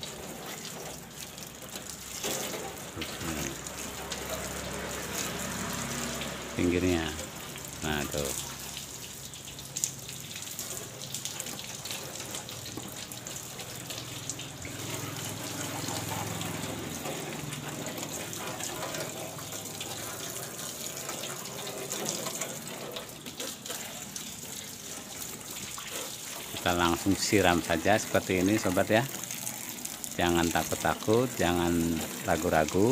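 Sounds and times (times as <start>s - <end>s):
hose water spraying on car: 0.0s - 32.9s.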